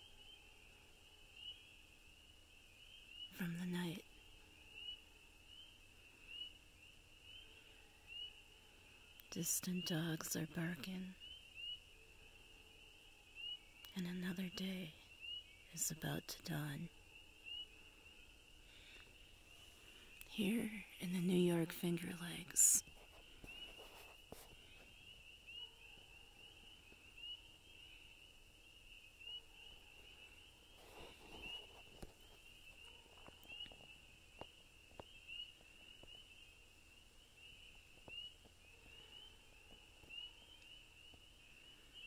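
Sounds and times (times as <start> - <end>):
spring peepers chorus: 0.0 - 42.0.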